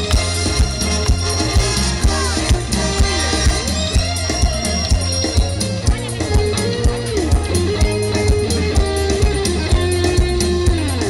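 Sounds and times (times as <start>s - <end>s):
drum kit beat: 0.0s - 11.0s
electric guitar lead: 0.0s - 11.0s.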